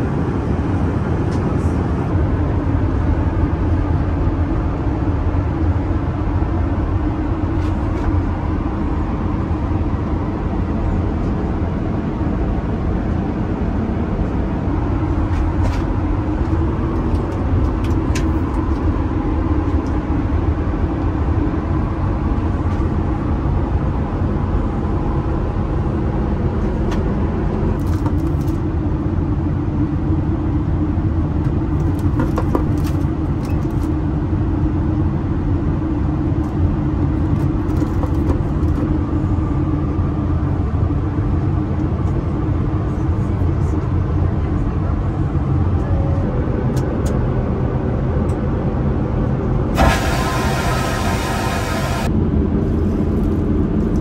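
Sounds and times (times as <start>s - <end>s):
aircraft engine rumble in cabin: 0.0s - 54.0s.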